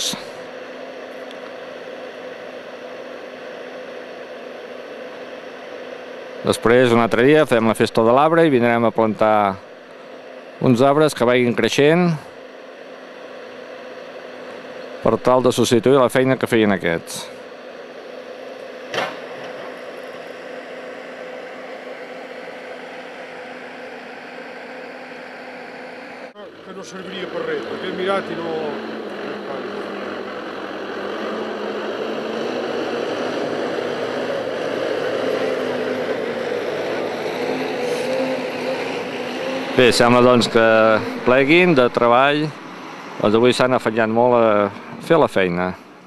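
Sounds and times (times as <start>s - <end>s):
diesel engine running at low revs: 0.0s - 46.0s.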